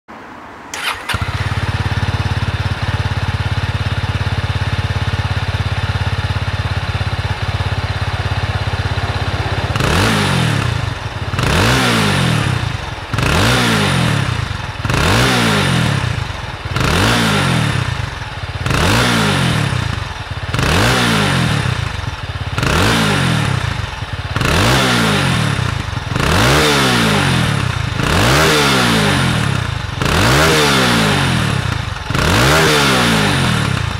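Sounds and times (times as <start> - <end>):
motorcycle engine idling and revving: 0.7 - 33.9.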